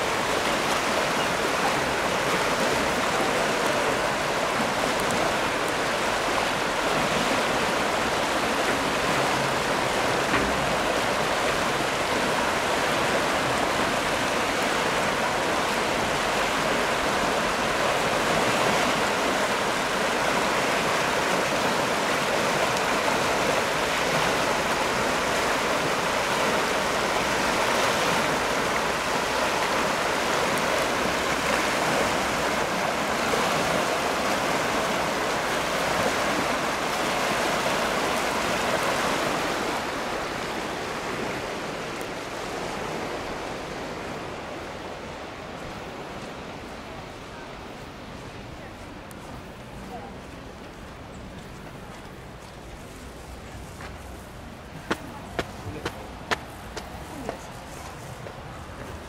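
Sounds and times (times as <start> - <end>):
floodwater rushing and churning: 0.0 - 59.0.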